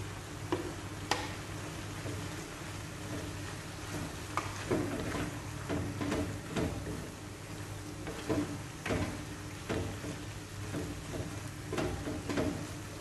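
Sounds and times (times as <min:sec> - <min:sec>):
wooden spoon scraping a pan: 0:02.0 - 0:13.0.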